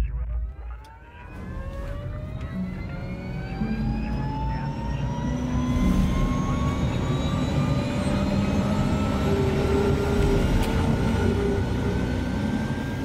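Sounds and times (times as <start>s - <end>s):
low rumble: 0.0s - 12.5s
helicopter turbine whine rising: 0.0s - 13.0s.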